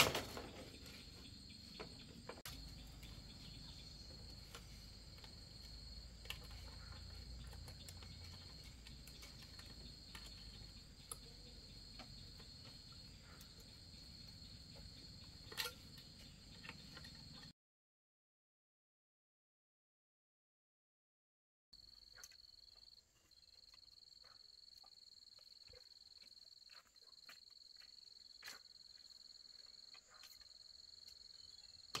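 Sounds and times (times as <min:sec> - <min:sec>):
insects chirring: 0:00.0 - 0:17.5, 0:21.8 - 0:32.0.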